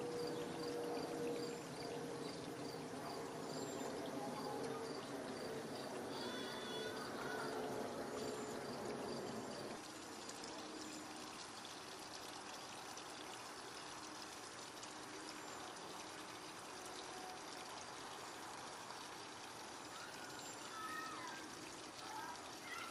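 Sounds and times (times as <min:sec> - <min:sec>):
trickle of running water: 0:00.0 - 0:22.9.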